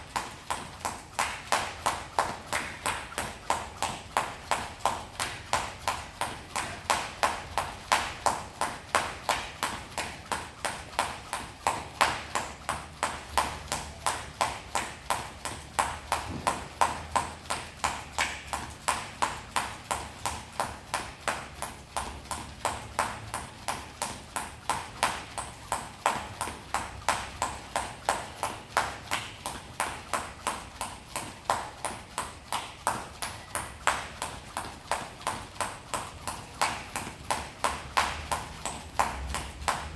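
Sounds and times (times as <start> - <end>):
jump rope slapping the floor: 0.0 - 39.9.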